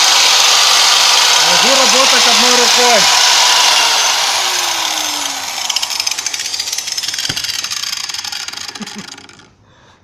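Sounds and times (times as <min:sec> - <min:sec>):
angle grinder spinning down: 0:00.0 - 0:09.6.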